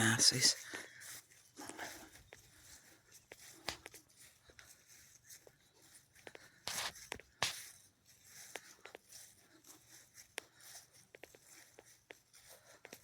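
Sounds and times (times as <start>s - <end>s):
faint footsteps: 0.0s - 13.0s
small clicks and rustles: 0.6s - 13.0s.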